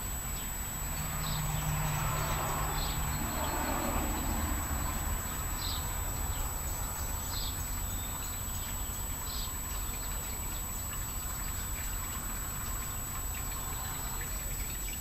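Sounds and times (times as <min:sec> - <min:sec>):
steady low rumble and hiss: 0:00.0 - 0:15.0.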